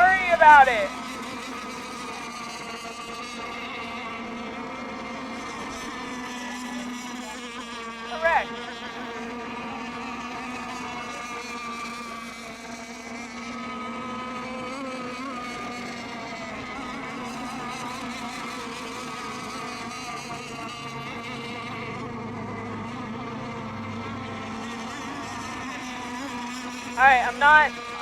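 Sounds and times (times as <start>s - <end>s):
model boat motors whining: 0.0s - 28.0s.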